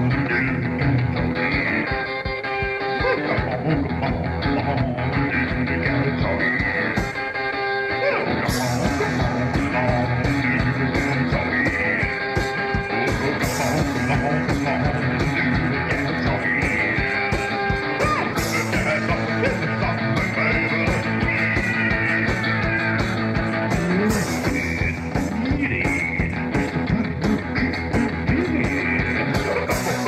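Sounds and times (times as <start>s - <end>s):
bass drum beat: 0.0s - 7.4s, 8.4s - 30.0s
electric guitar rock music: 0.0s - 30.0s.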